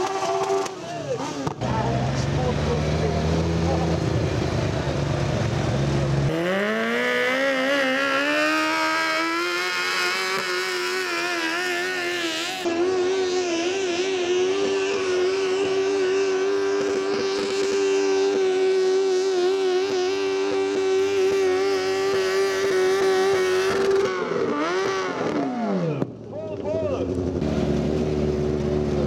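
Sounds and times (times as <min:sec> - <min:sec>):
pulling tractor engine revving: 0:00.0 - 0:26.0.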